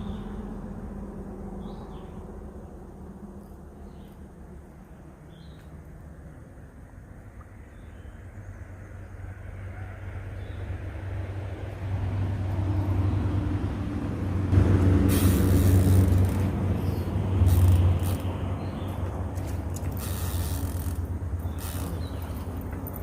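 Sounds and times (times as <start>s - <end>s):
passing vehicle engine rumble: 0.0s - 23.0s.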